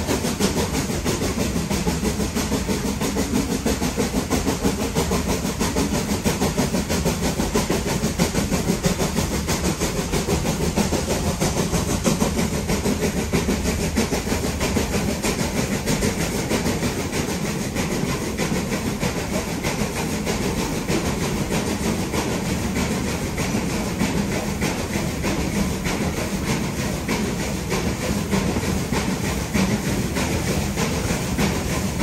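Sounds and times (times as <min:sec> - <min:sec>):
steam locomotive exhaust: 0:00.0 - 0:32.0
wheels clattering on rail: 0:00.0 - 0:32.0.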